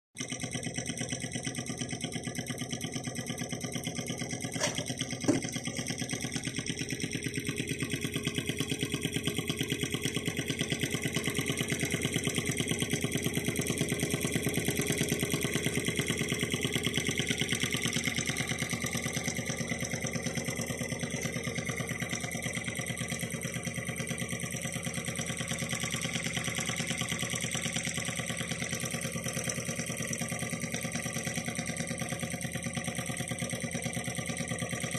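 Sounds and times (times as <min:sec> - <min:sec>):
model engine mechanical clatter: 0:00.2 - 0:34.9.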